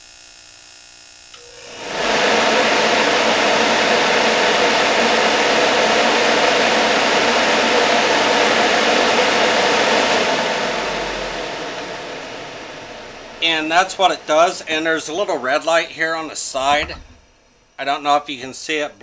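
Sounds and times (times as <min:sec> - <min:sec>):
heater fan rushing air: 0:01.4 - 0:17.8.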